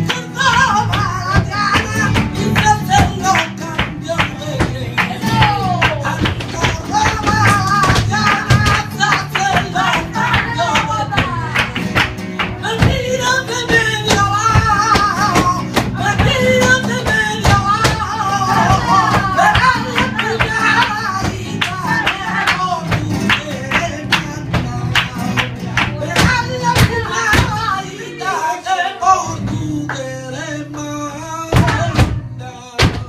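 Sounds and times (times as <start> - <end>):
flamenco vocal: 0.0 - 33.0
guitar: 0.0 - 33.0.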